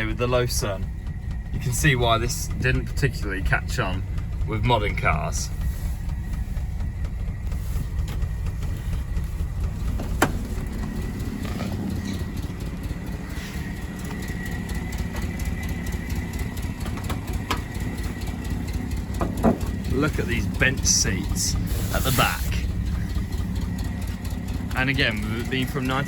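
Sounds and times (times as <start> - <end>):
petrol engine idling: 0.0 - 26.0.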